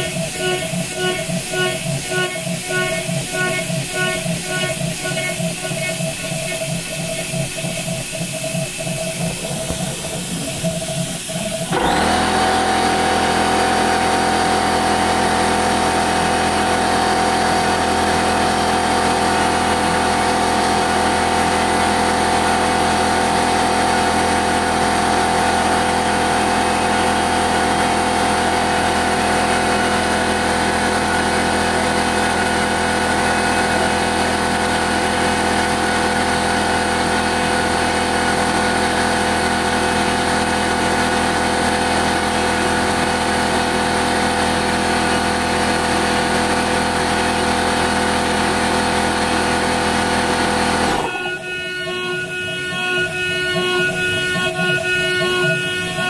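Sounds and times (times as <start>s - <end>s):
end mill cutting aluminium: 0.0s - 56.0s
router spindle high whine: 0.0s - 56.0s.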